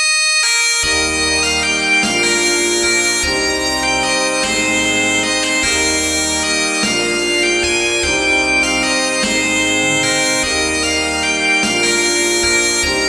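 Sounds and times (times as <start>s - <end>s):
bagpipe melody: 0.0s - 13.0s
concert band accompaniment: 0.8s - 13.0s.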